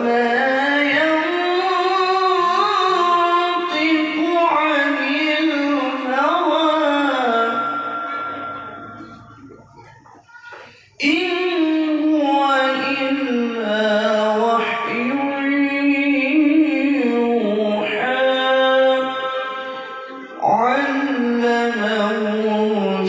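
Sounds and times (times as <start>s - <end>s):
man chanting melodically: 0.0s - 23.0s.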